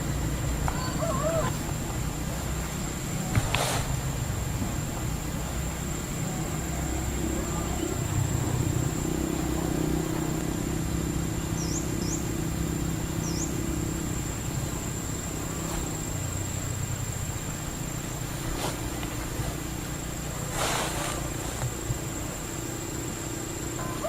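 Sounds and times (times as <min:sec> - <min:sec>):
high whine: 0:00.0 - 0:24.0
low steady hum: 0:00.0 - 0:24.0.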